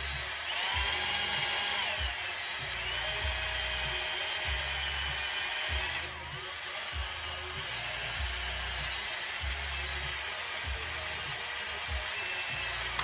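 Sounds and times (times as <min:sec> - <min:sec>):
cordless drill boring through metal: 0:00.0 - 0:13.0.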